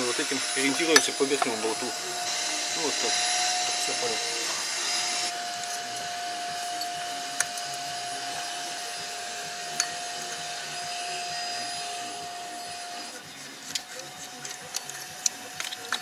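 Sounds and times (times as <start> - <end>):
small motor whirring hum: 0.0 - 16.0.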